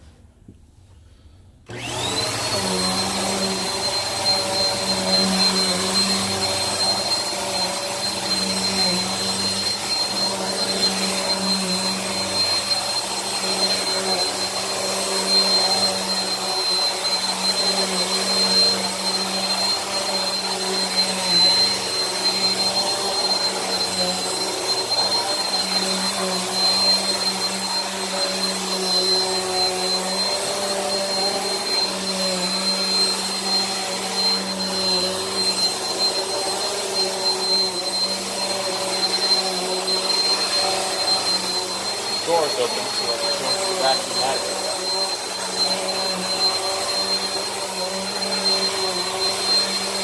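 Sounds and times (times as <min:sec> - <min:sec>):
vacuum cleaner running: 0:01.1 - 0:50.0.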